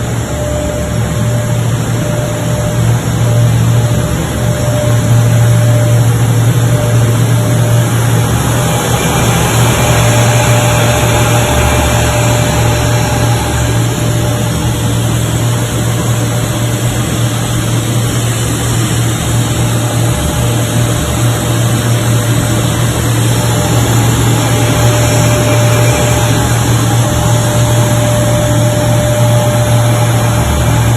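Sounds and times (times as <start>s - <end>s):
faint high machine whine: 0.0s - 30.9s
machine hum: 0.0s - 30.9s.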